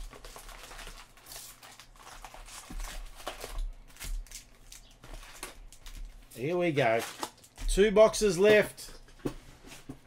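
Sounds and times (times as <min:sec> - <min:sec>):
cards and wrappers rustling: 0:00.0 - 0:10.0.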